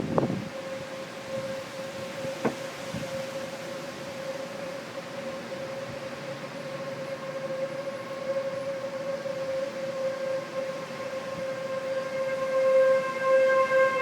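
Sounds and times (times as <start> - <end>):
tornado warning sirens: 0.0 - 14.0.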